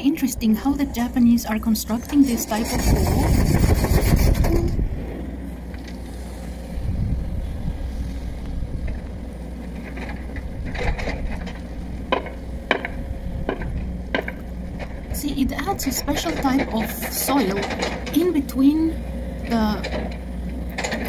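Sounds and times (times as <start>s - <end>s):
excavator engine rumble: 0.0s - 21.0s.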